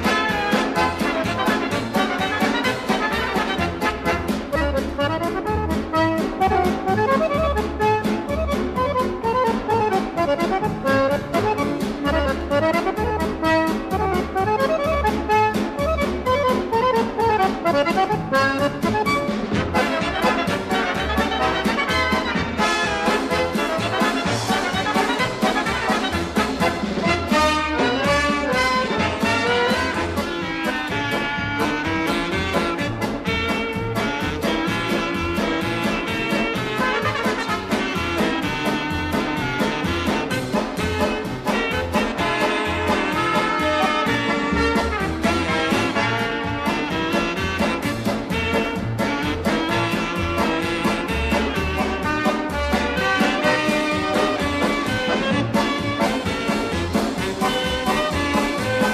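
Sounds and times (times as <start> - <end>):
upbeat swing music with brass: 0.0 - 58.9.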